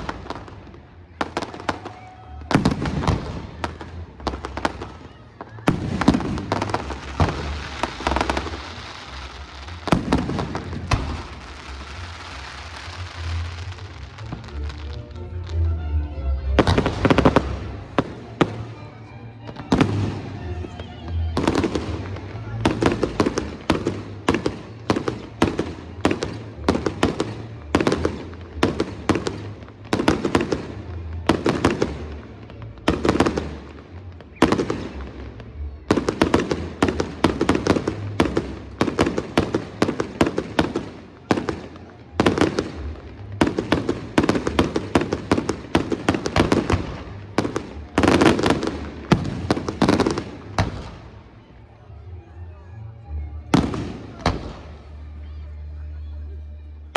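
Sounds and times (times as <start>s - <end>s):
fireworks bangs and bursts: 0.0s - 14.9s, 19.5s - 51.2s, 53.5s - 55.0s.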